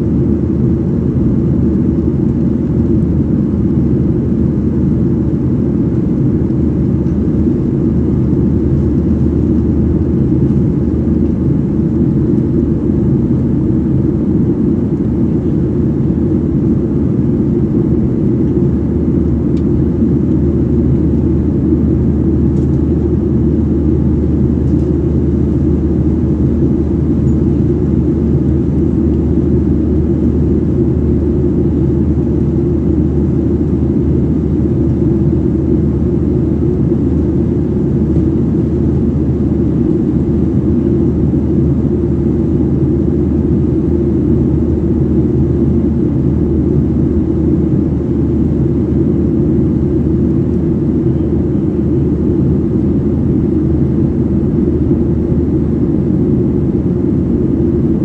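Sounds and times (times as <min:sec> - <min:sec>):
jet engine noise in cabin: 0:00.0 - 0:58.0.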